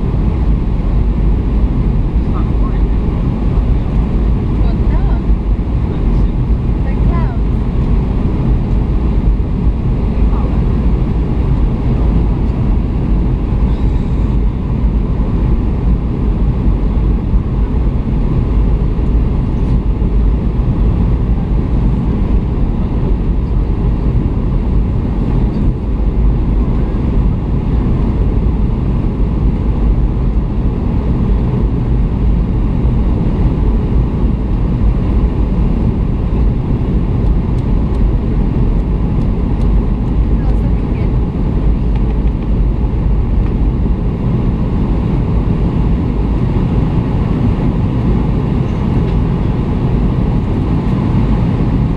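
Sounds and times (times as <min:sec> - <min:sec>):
airliner cabin engine rumble: 0:00.0 - 0:51.9.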